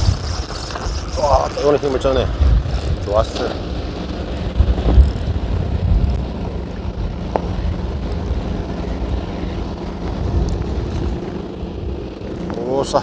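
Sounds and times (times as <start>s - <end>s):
motorboat engine running: 0.0s - 13.0s
wind gusting on microphone: 0.0s - 13.0s.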